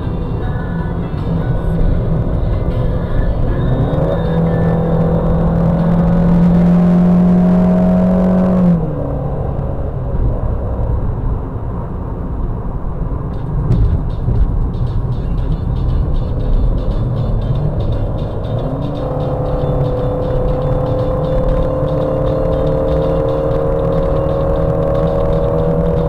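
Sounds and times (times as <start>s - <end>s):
car engine droning: 0.0s - 26.0s
tyre and road rumble: 0.0s - 26.0s.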